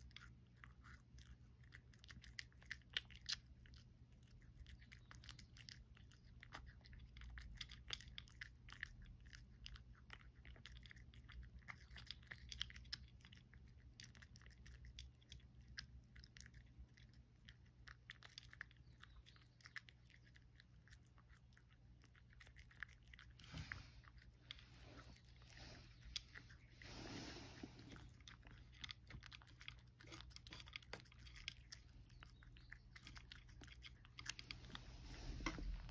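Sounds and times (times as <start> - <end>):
cat crunching dry kibble: 0.0 - 35.9.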